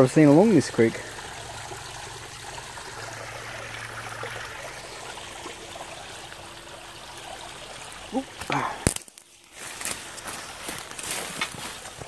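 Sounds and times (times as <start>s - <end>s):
creek water trickling over rocks: 0.0s - 12.0s.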